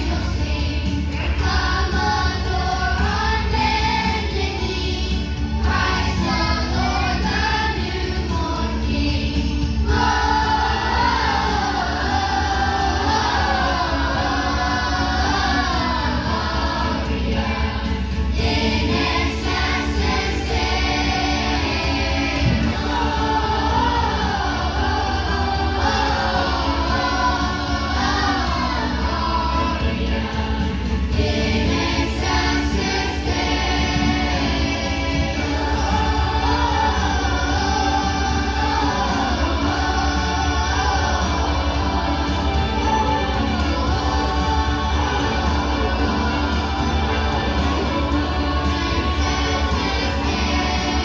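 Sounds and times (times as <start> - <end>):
choir singing: 0.0 - 51.0
musical accompaniment: 0.0 - 51.0.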